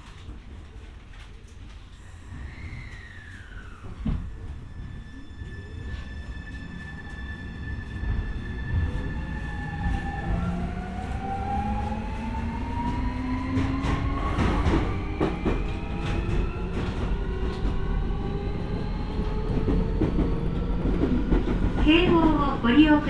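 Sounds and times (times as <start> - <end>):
low train running rumble: 0.1 - 23.0.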